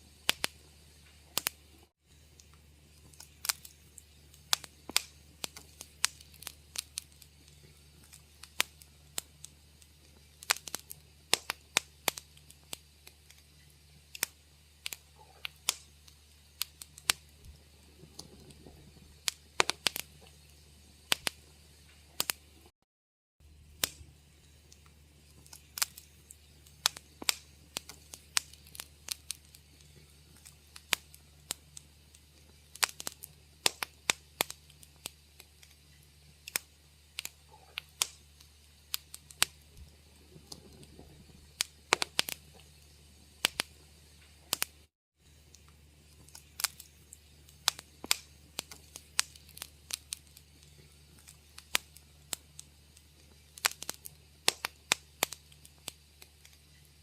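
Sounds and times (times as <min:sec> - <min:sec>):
faint low hum: 0:00.0 - 0:22.7, 0:23.4 - 0:57.0
wood fire crackling: 0:00.0 - 0:22.7, 0:23.4 - 0:57.0.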